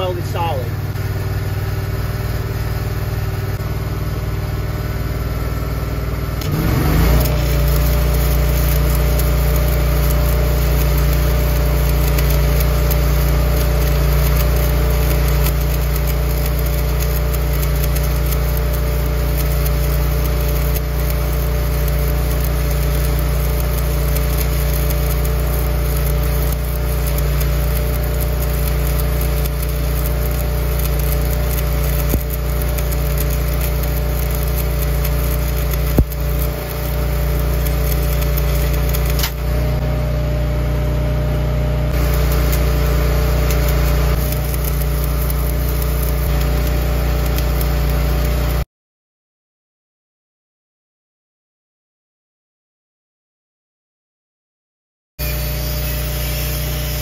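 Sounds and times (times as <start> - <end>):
welding arc crackling: 0.0 - 40.0, 41.9 - 48.6, 55.2 - 57.0
engine-driven welder running: 0.0 - 48.6, 55.2 - 57.0.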